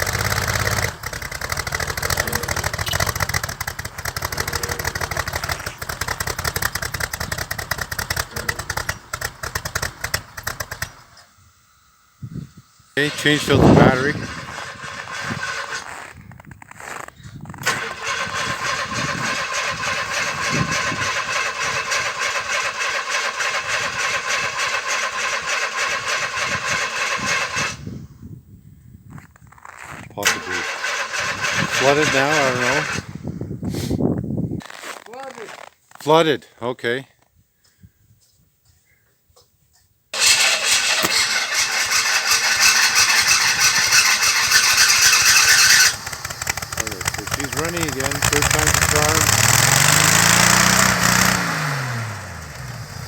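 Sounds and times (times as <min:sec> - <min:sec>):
starter cranking engine: 0:00.0 - 0:11.3, 0:13.0 - 0:28.0, 0:29.2 - 0:33.2, 0:40.2 - 0:53.0
engine running: 0:00.0 - 0:28.0, 0:29.2 - 0:33.3, 0:40.2 - 0:53.0.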